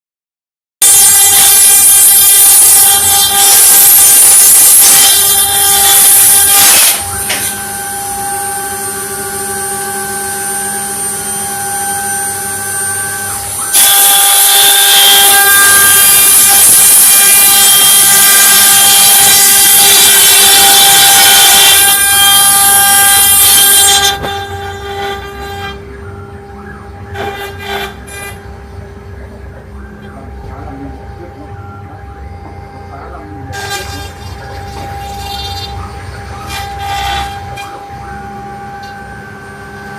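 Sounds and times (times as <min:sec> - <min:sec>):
router bit cutting wood: 0:00.8 - 0:28.6, 0:29.6 - 0:39.6
router spindle whine: 0:00.8 - 0:39.9.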